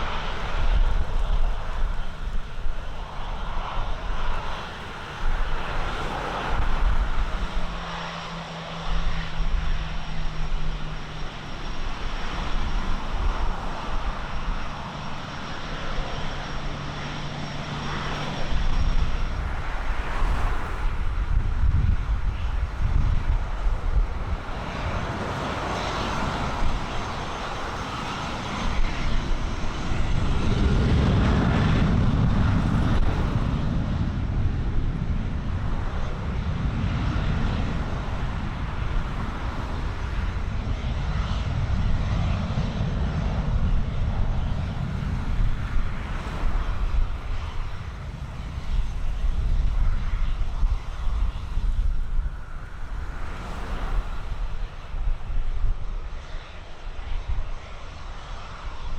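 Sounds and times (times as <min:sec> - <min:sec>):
aircraft engine running: 0:00.0 - 0:58.9
wind rumble on microphone: 0:00.0 - 0:58.9.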